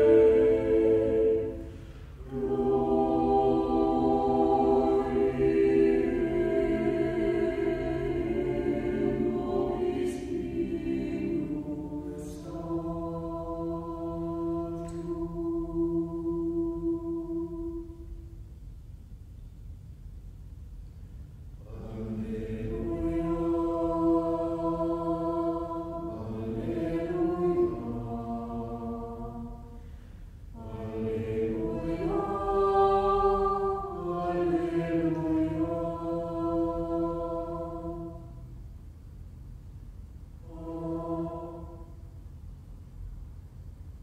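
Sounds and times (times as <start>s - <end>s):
choir singing sustained chords: 0.0s - 19.1s, 21.0s - 44.0s.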